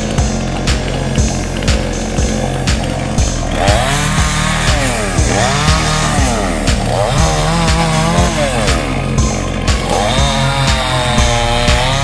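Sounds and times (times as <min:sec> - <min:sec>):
background music with steady beat: 0:00.0 - 0:12.0
chainsaw cutting wood: 0:00.0 - 0:12.0.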